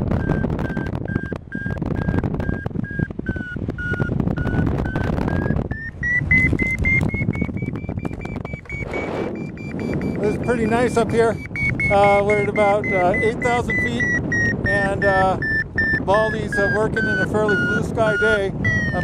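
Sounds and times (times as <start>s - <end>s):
variometer short beeps: 0.0s - 19.0s
wind rumbling over microphone: 0.0s - 19.0s.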